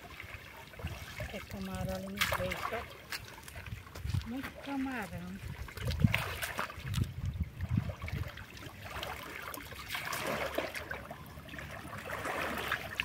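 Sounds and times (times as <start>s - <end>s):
water sloshing while wading: 0.0s - 13.0s.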